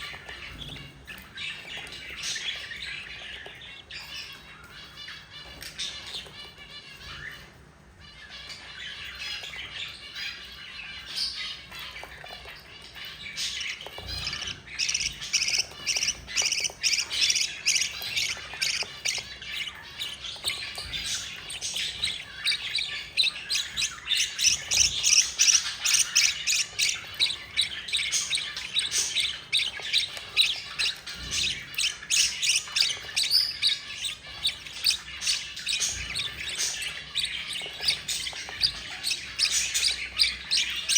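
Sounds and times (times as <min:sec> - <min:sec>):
chicks begging squawks: 0:00.0 - 0:40.9.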